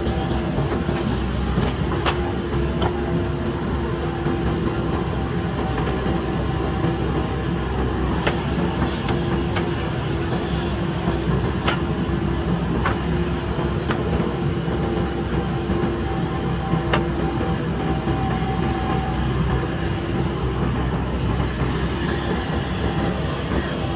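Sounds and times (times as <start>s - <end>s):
diesel engine running with whine: 0.0s - 23.9s.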